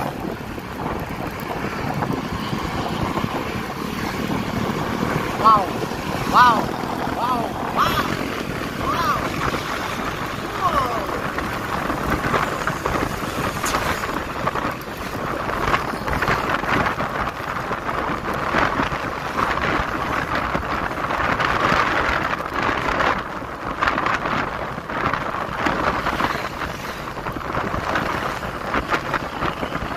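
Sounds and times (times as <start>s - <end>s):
road and traffic noise: 0.0s - 29.9s
wind buffeting microphone: 0.0s - 29.9s.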